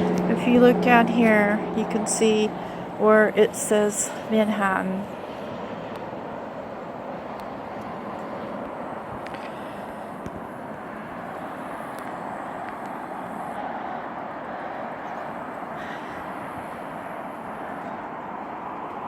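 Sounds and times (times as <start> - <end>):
outdoor background rush: 0.0 - 19.0.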